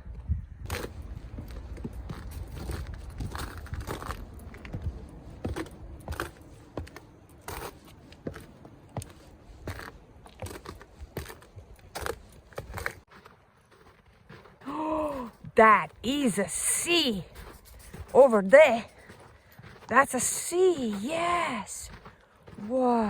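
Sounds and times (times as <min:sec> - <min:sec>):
footsteps crunching: 0:00.6 - 0:23.0.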